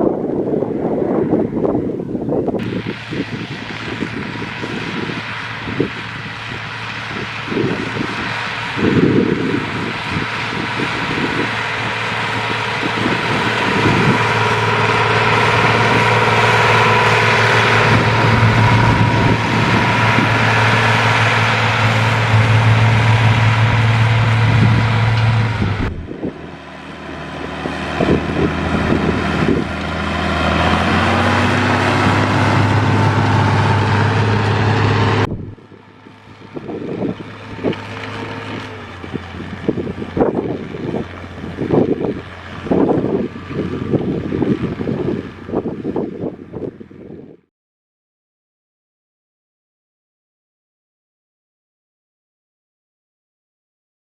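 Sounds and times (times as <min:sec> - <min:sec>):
tractor engine running: 0:00.0 - 0:47.4.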